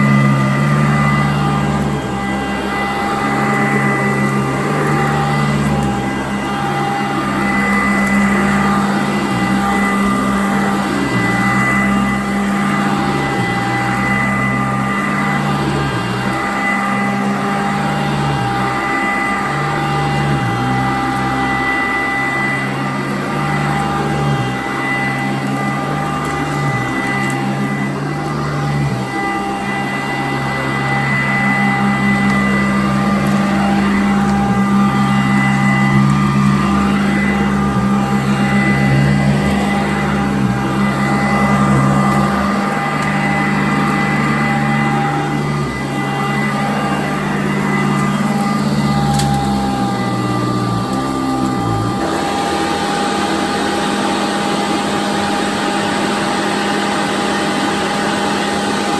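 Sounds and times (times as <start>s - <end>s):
vacuum cleaner running on carpet: 0.0s - 58.9s.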